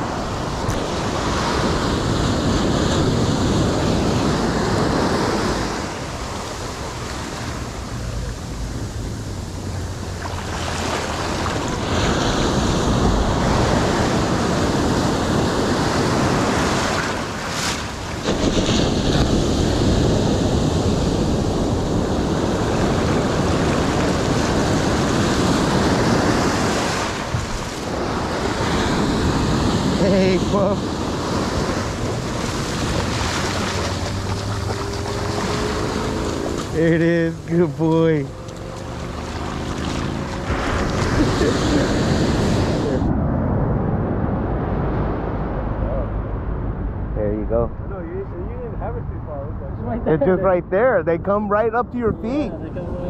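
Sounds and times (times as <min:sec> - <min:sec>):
ocean surf breaking: 0:00.0 - 0:47.9
wind rumbling on microphone: 0:00.0 - 0:53.0.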